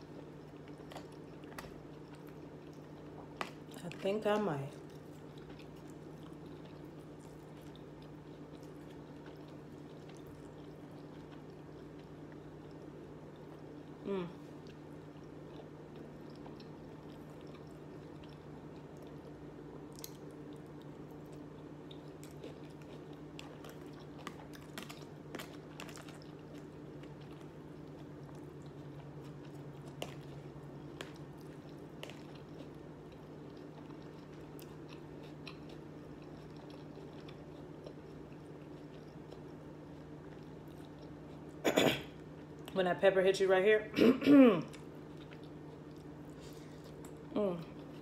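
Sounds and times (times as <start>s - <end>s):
person chewing food: 0.0s - 4.0s, 4.7s - 42.7s, 44.7s - 48.0s
steady low hum: 0.0s - 48.0s.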